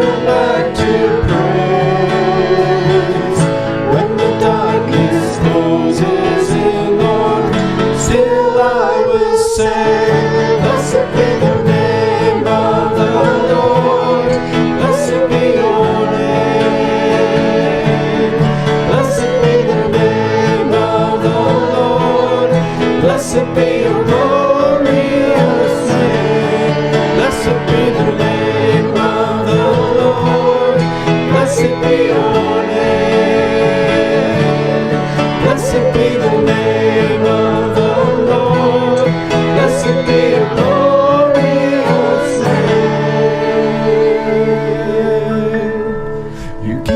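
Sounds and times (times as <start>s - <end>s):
acoustic guitar: 0.0s - 46.9s
person singing a hymn: 0.0s - 46.9s.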